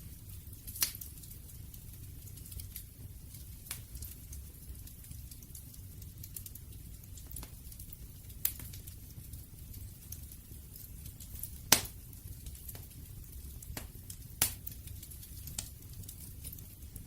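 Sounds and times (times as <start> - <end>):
bonfire crackling: 0.0 - 17.0
loud fire pops: 0.0 - 17.0
low fire rumble: 0.0 - 17.0.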